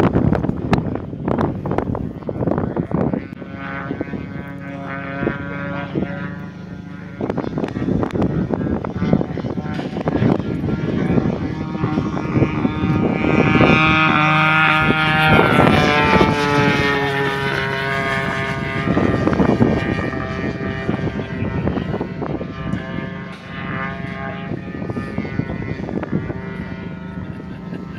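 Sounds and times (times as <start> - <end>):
model plane engine and propeller: 0.0 - 27.9.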